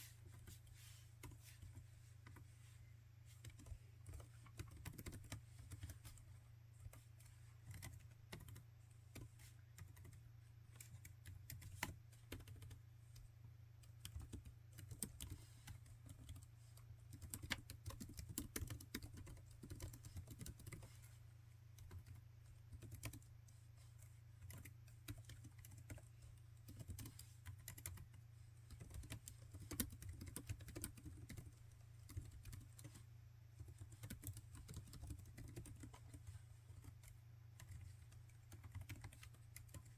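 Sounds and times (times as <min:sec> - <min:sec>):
laptop keyboard typing: 0:03.4 - 0:06.2, 0:07.6 - 0:21.0, 0:21.8 - 0:23.3, 0:24.4 - 0:33.0, 0:33.6 - 0:39.9.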